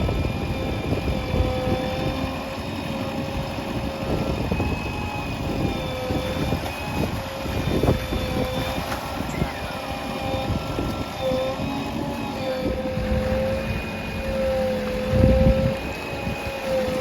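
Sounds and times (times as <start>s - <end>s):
diesel engine rumble with whine: 0.0s - 17.0s.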